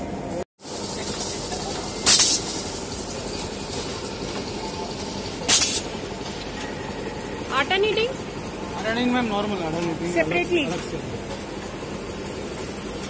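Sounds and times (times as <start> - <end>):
machine hissing: 0.6 - 13.0.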